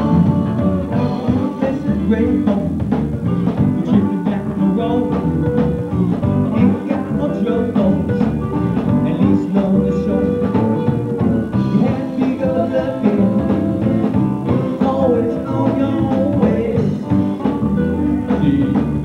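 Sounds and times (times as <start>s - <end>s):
electric guitar: 0.0s - 19.0s
live band playing: 0.0s - 19.0s
steady drum beat: 0.0s - 19.0s.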